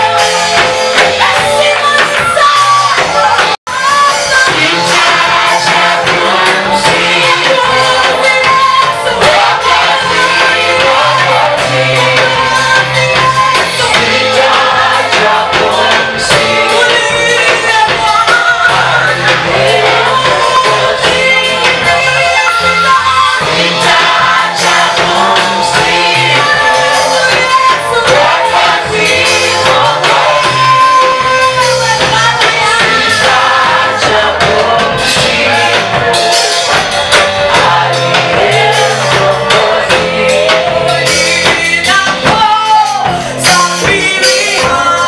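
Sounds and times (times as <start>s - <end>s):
bass line: 0.0s - 45.0s
gospel worship music: 0.0s - 45.0s
group of voices singing: 0.0s - 45.0s
percussion beat: 0.0s - 45.0s.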